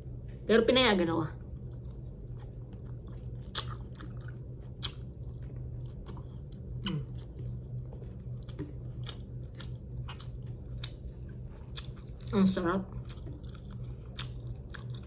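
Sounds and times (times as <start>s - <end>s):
steady low hum: 0.0s - 15.0s
person chewing food: 1.4s - 15.0s.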